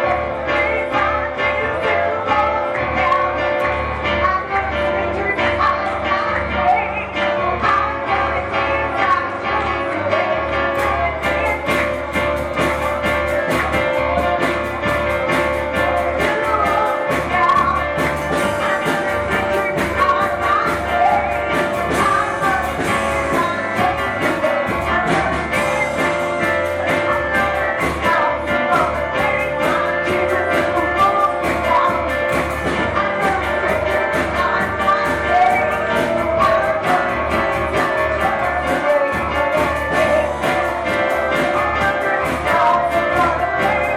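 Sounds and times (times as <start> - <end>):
held keyboard chords: 0.0 - 43.9
live band music with steady beat: 0.0 - 43.9.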